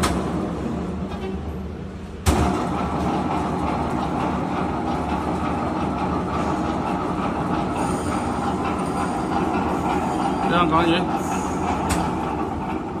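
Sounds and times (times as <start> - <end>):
bending machine motor running: 2.4 - 13.0.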